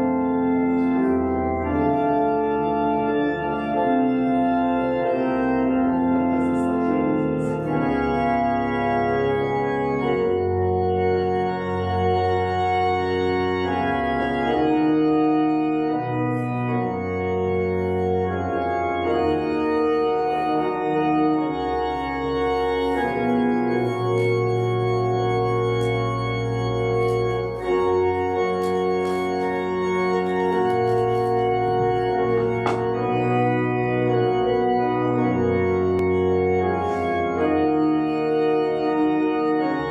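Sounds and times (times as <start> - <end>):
pipe organ playing chords: 0.0 - 39.9.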